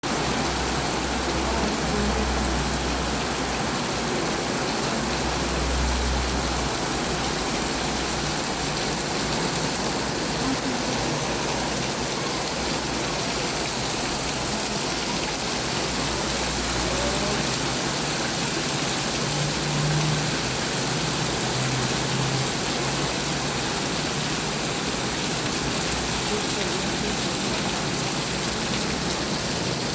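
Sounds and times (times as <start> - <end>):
rain falling steadily: 0.0 - 29.9.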